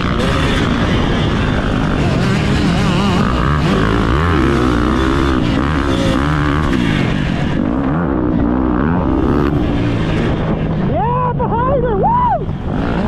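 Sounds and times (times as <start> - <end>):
racing engine revving: 0.0 - 10.9.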